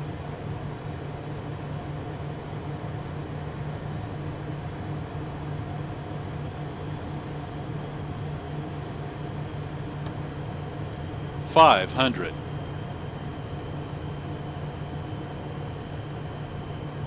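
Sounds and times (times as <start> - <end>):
low jet engine hum: 0.0 - 17.0.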